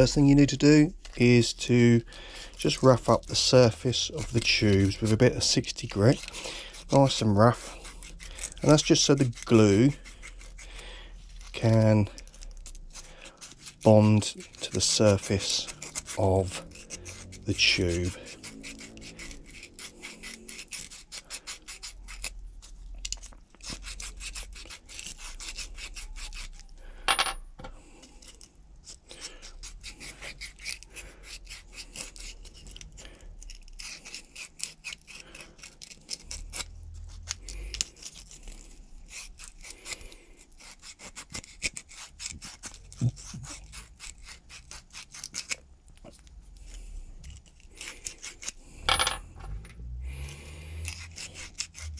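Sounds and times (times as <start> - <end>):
sandpaper scratching on tube: 0.0 - 26.7, 28.2 - 45.6, 46.7 - 48.8, 50.2 - 51.9.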